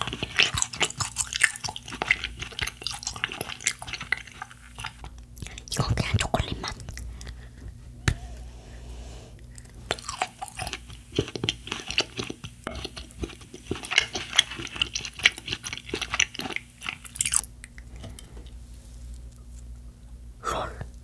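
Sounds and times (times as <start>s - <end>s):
crunching and chewing: 0.0s - 7.5s, 9.4s - 19.7s.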